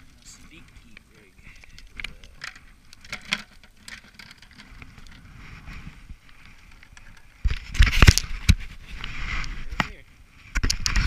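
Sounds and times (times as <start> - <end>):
fishing gear handling noise: 0.8 - 9.9.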